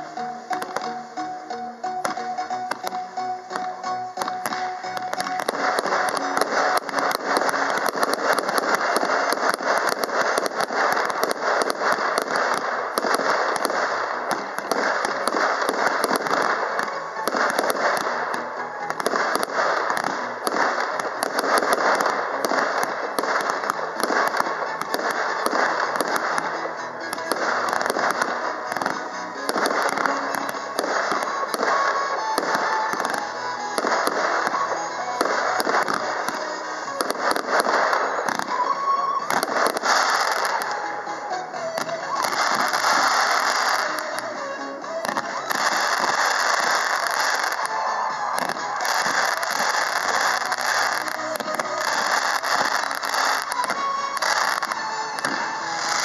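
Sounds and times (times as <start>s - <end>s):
fireworks bangs and crackles: 0.0s - 56.0s
music playing: 0.0s - 56.0s.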